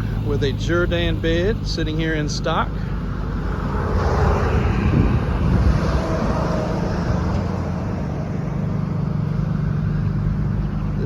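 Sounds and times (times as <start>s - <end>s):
road traffic noise: 0.0s - 11.0s
vehicle engine running: 0.0s - 11.0s.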